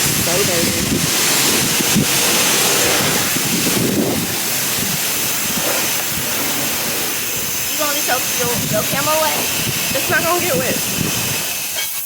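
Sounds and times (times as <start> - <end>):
high-pressure water spraying: 0.0 - 12.0.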